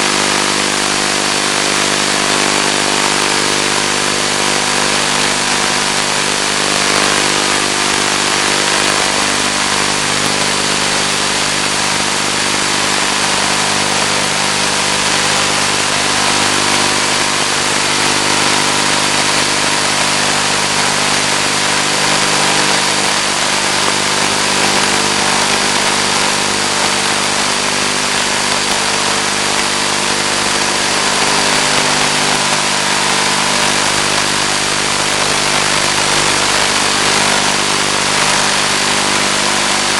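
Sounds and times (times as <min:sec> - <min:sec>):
electric motor and propeller drone: 0:00.0 - 0:39.9
high steady whine: 0:00.0 - 0:39.9
radio hiss: 0:00.0 - 0:39.9.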